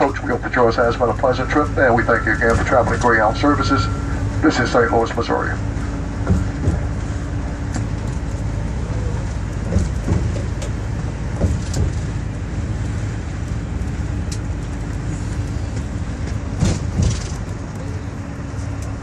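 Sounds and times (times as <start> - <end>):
coach engine rumbling: 0.0 - 19.0
knocks and rattles in cabin: 0.0 - 19.0.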